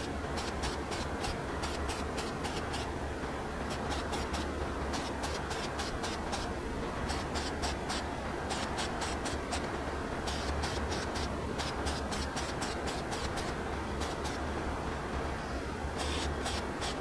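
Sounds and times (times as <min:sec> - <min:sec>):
steady low hum: 0:00.0 - 0:17.0
aerosol spray can hissing: 0:00.4 - 0:02.9, 0:03.7 - 0:06.5, 0:07.1 - 0:14.4, 0:16.0 - 0:17.0.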